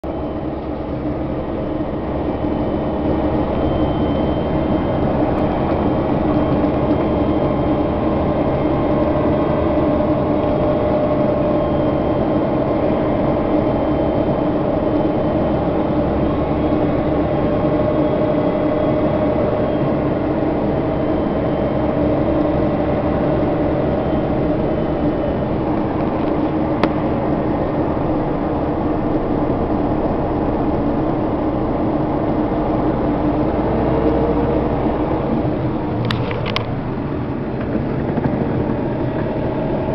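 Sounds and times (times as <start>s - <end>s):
military vehicle engine drone: 0.0s - 39.9s.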